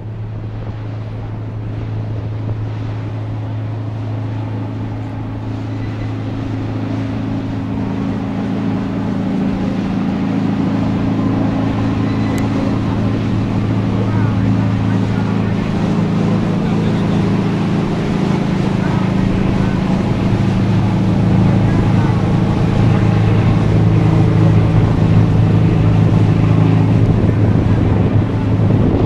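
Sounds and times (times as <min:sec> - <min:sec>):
boat diesel engine droning: 0:00.0 - 0:29.0.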